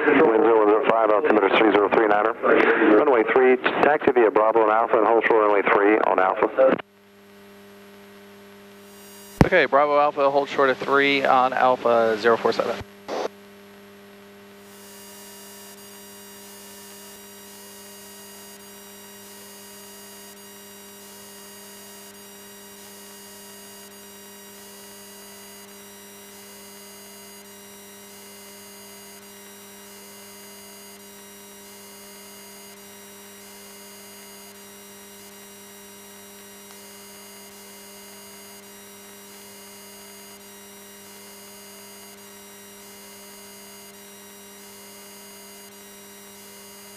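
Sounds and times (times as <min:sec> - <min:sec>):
electrical hum on radio feed: 0:00.0 - 0:46.9.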